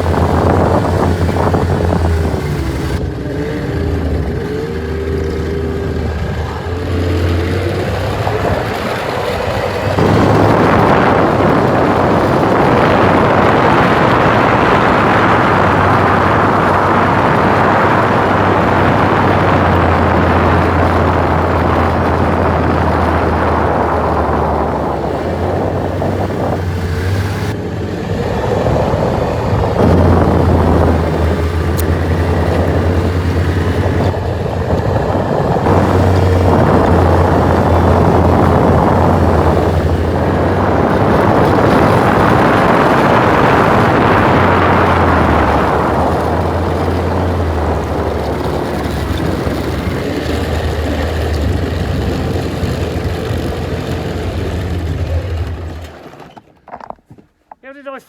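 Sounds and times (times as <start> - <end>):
snowmobile engine hum: 0.0 - 56.2
rush of track and snow: 0.0 - 56.6.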